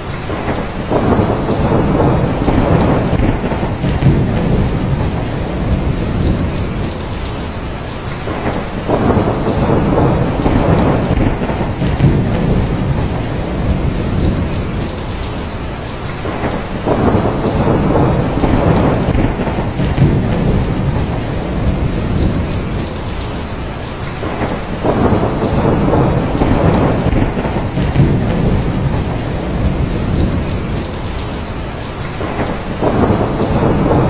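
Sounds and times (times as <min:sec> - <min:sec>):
low rolls of thunder: 0:00.0 - 0:34.0
steady rain: 0:00.0 - 0:34.0.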